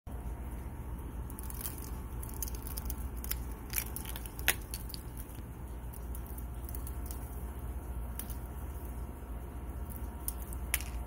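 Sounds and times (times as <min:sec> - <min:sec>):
ice on leaves crackling: 0:01.2 - 0:09.0, 0:09.8 - 0:11.0.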